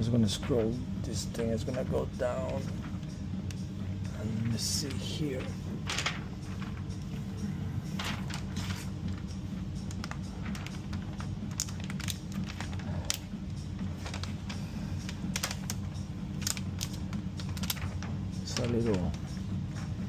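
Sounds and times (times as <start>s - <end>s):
film crinkling and clicking: 0.0s - 20.0s
steady low hum: 0.0s - 20.0s.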